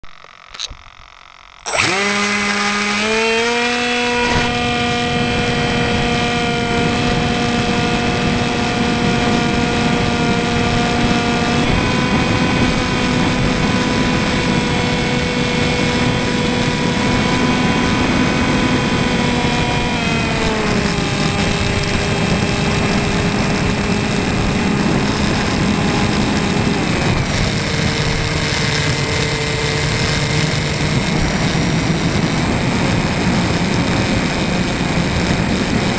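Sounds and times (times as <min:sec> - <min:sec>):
model plane motor whining: 0:00.1 - 0:35.9.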